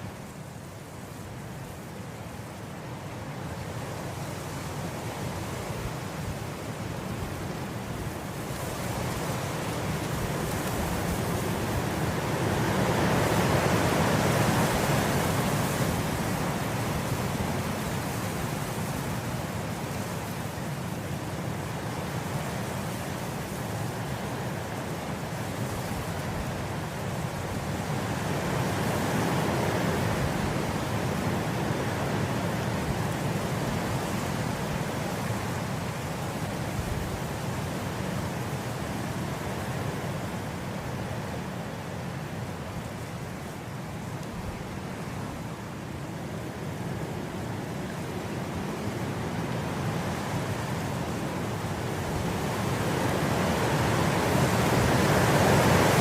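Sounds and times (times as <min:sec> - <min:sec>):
wind blowing through grass: 0:00.0 - 0:56.0.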